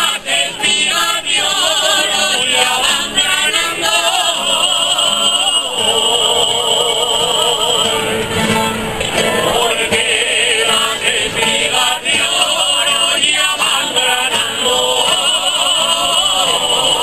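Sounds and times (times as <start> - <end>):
strummed plucked strings: 0.0 - 17.0
voices singing with vibrato: 0.0 - 17.0.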